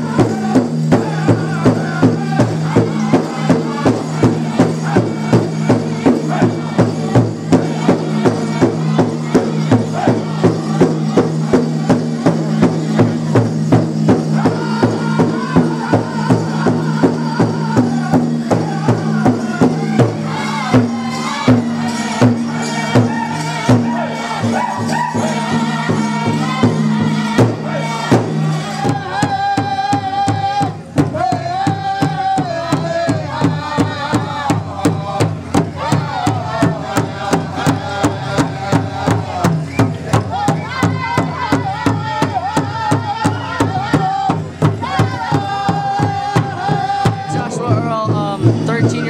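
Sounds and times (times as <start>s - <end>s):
drum steady beat: 0.0s - 49.0s
voices chanting in high tones: 0.0s - 49.0s.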